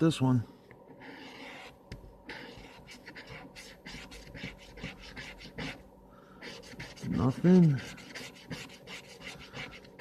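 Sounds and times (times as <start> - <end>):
scratching lottery ticket: 1.0 - 5.8, 6.4 - 10.0.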